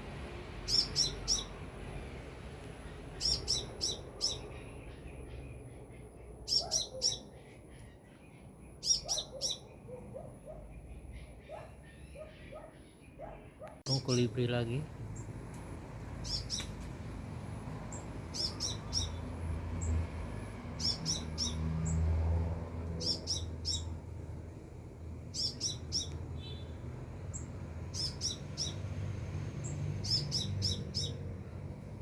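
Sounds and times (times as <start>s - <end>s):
sunbird chirping: 0.6s - 22.1s, 22.9s - 24.4s, 25.2s - 31.3s.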